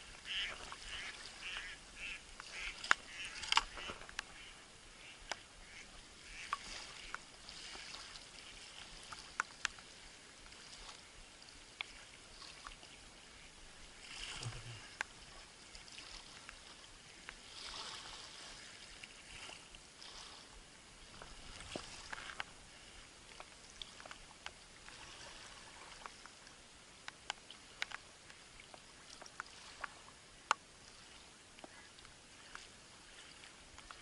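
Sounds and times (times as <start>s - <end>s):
small waves lapping: 0.0s - 34.0s.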